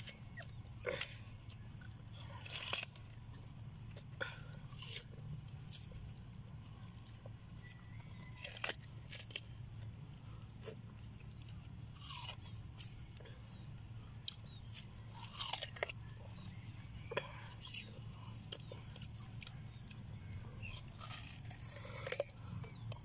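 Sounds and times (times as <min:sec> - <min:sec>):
low steady hum: 0:00.0 - 0:23.0
watermelon crunching: 0:00.0 - 0:23.0.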